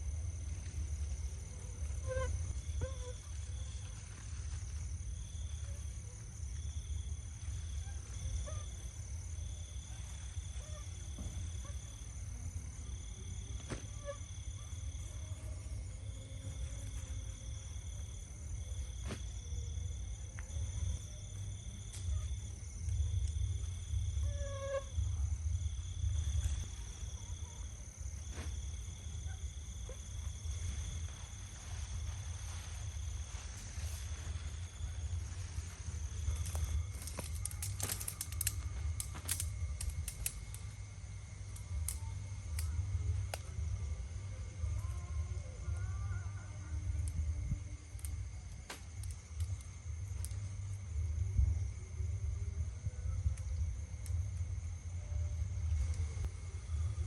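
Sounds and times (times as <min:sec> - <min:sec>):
insect chirping: 0:00.0 - 0:57.0
insect high-pitched trill: 0:00.0 - 0:57.0.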